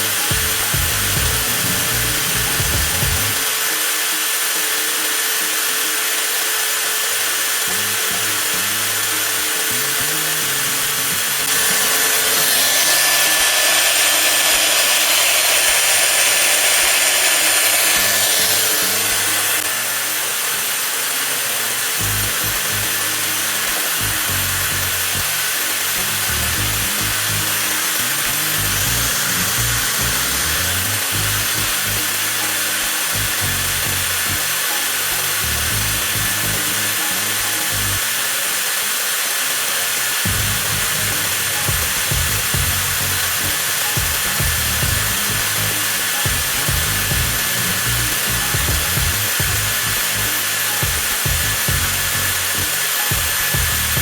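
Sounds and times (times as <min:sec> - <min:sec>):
angle grinder whining: 0:00.0 - 0:54.0.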